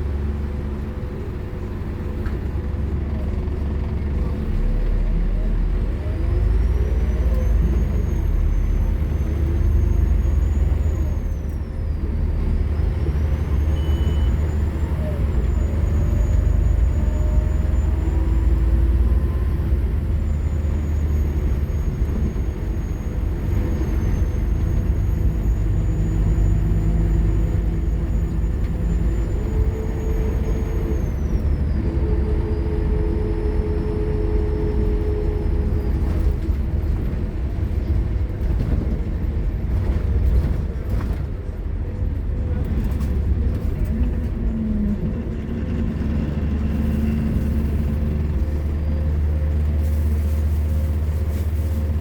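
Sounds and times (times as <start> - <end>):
bus diesel engine rumbling: 0.0 - 52.0
high engine whine: 4.1 - 52.0.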